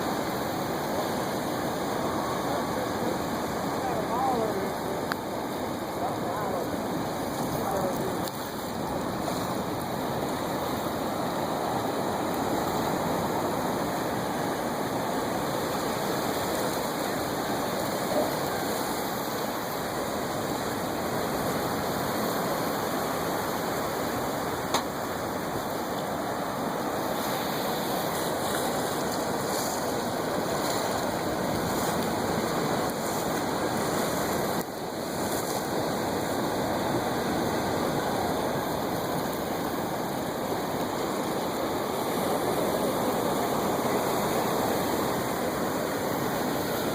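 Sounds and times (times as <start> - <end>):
ocean surf rushing: 0.0 - 46.9.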